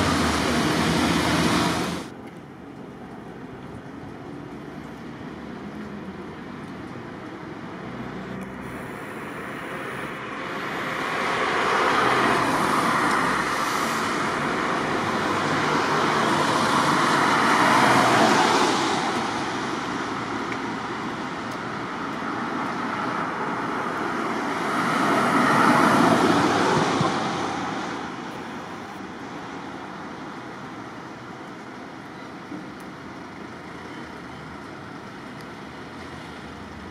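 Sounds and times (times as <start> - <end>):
traffic passing on wet street: 0.0 - 36.9.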